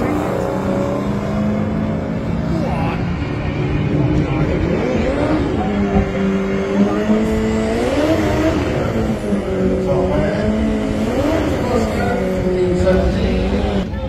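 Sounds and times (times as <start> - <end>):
drag racing cars accelerating: 0.0 - 14.0.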